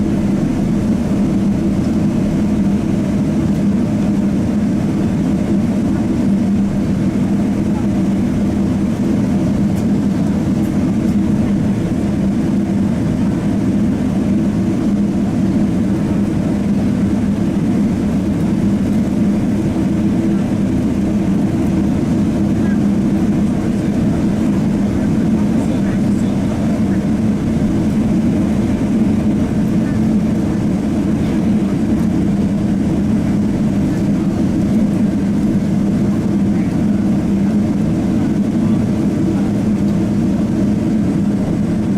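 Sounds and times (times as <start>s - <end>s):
jet engine cabin drone: 0.0s - 41.9s.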